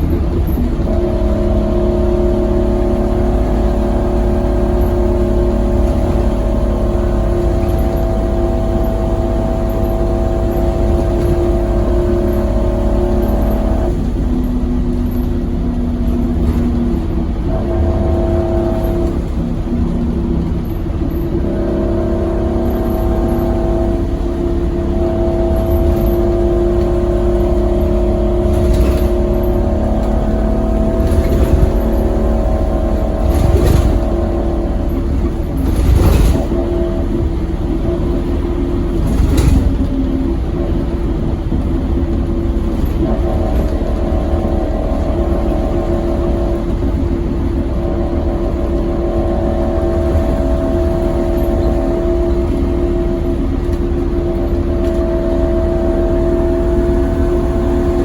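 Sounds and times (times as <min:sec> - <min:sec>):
bus body knocks and rattles: 0:00.0 - 0:55.5
bus engine pulling: 0:00.0 - 0:58.0.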